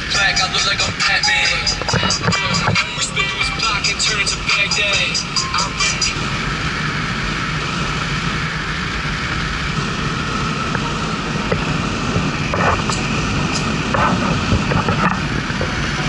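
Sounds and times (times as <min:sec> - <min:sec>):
in-cabin road and wind noise: 0:00.0 - 0:16.0.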